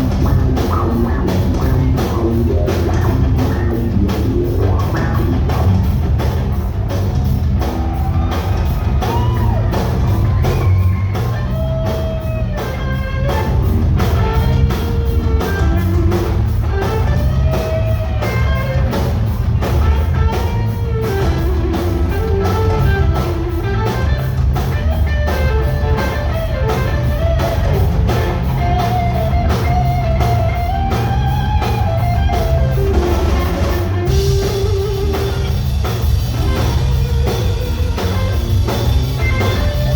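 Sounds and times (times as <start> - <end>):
bass: 0.0 - 39.9
drums: 0.0 - 39.9
electric guitar lead: 0.0 - 39.9.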